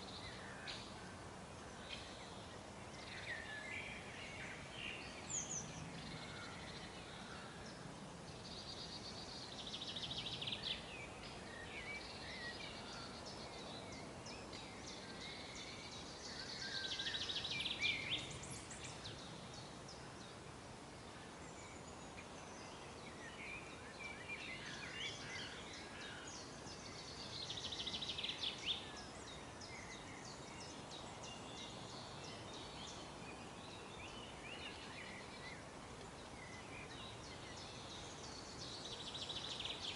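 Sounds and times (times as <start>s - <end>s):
bird song of rapid repeated notes: 0.0s - 39.9s
faint background hiss: 0.0s - 39.9s.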